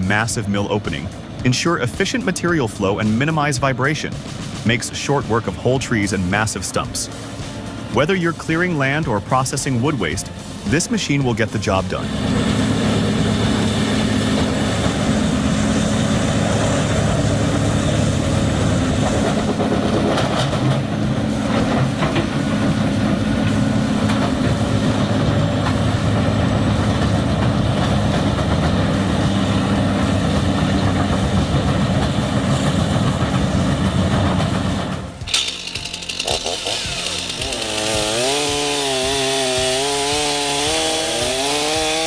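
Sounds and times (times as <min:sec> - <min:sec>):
diesel grinder droning: 0:00.0 - 0:42.0.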